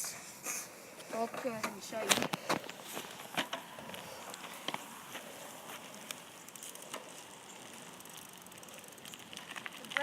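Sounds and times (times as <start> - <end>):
bike clicks and crackles: 0.0 - 10.0.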